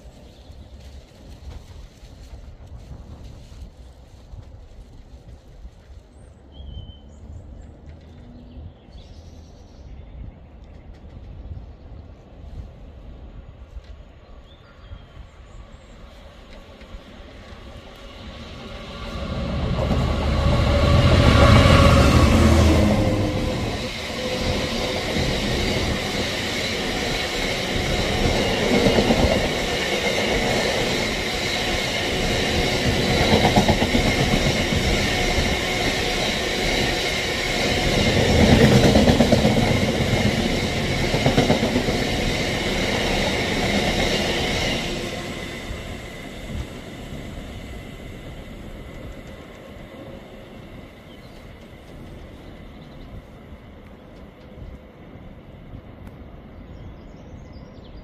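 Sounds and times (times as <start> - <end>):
diesel locomotive passing: 0.0 - 58.0
high whine of wheels on rails: 0.0 - 58.0.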